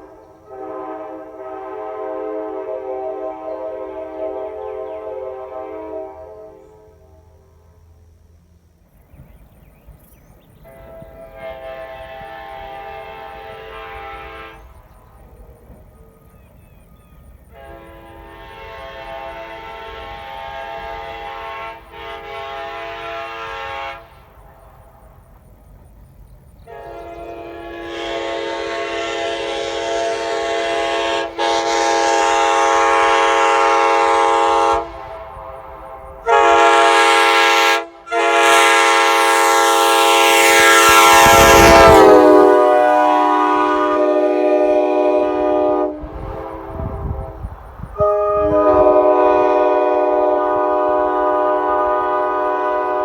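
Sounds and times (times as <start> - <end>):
locomotive horn blasts: 0.0 - 7.6, 10.6 - 14.9, 17.5 - 24.5, 26.6 - 53.0.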